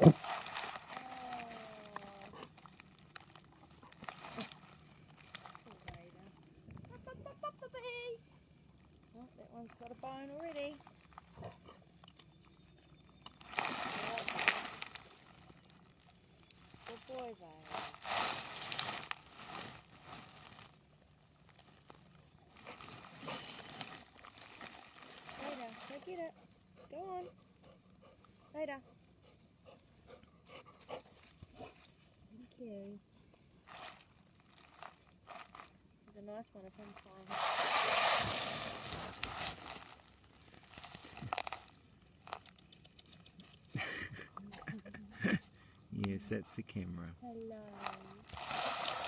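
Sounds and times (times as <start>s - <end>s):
crinkly rustling and crunching: 0.0s - 8.0s, 8.6s - 27.1s, 31.1s - 45.0s, 46.7s - 49.0s.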